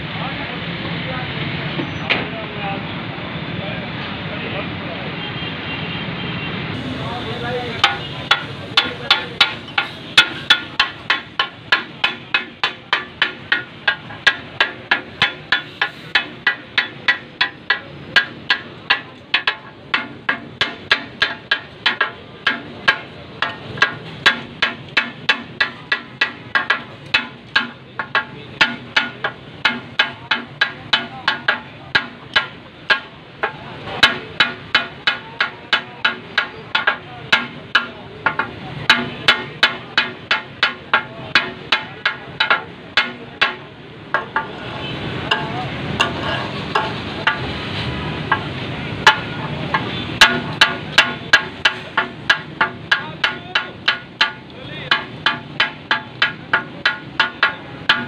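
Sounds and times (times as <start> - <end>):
steel spatulas clattering on griddle: 7.8 - 44.6, 45.3 - 47.6, 48.2 - 58.0.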